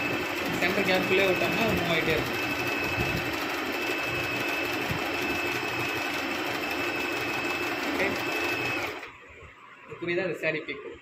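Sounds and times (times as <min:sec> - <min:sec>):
sewing machine whining: 0:00.0 - 0:09.3.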